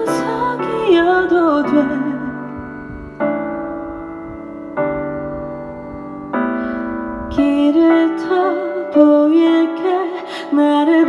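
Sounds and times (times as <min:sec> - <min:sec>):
ringing piano chords: 0:00.0 - 0:11.0.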